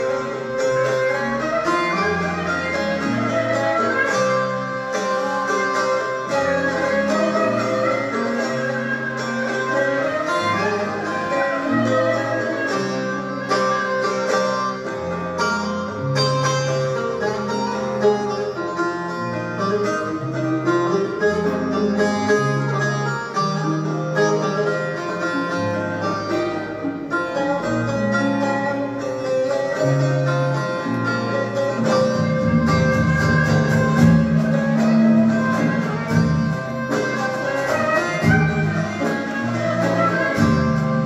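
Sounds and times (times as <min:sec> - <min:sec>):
folk music ensemble: 0:00.0 - 0:41.0
plucked strings: 0:00.0 - 0:41.0.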